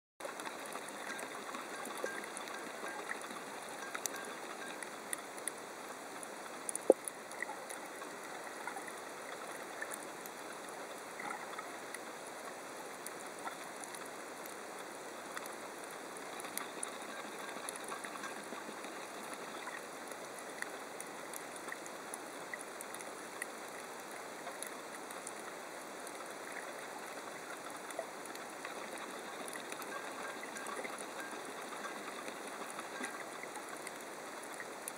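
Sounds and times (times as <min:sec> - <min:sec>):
faint sharp clicks and crackles: 0:00.2 - 0:34.9.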